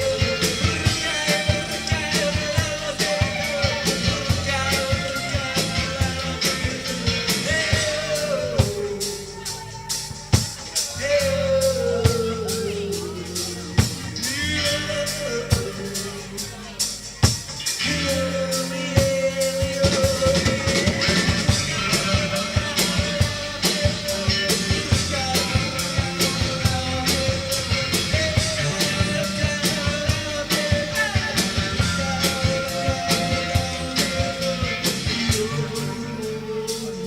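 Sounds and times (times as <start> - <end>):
drum kit beat: 0.0 - 37.0.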